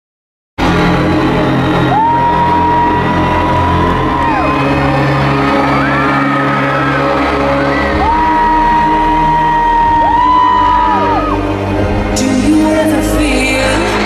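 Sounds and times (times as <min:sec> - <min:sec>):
fans screaming: 0:00.6 - 0:12.0
live pop concert music: 0:00.6 - 0:14.0.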